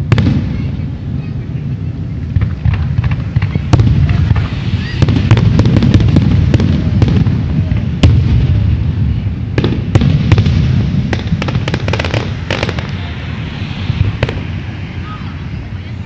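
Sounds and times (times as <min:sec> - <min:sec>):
fireworks bangs: 0:00.0 - 0:16.0
fireworks crackles: 0:00.0 - 0:16.0
low rumble: 0:00.0 - 0:16.0.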